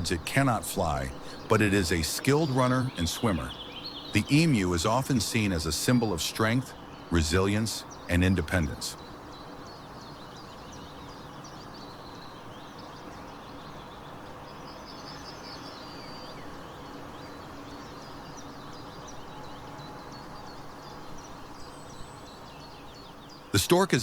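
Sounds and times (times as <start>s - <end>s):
bird trill: 0.0s - 24.0s
small birds chirping: 0.0s - 24.0s
steady background hiss: 0.0s - 24.0s.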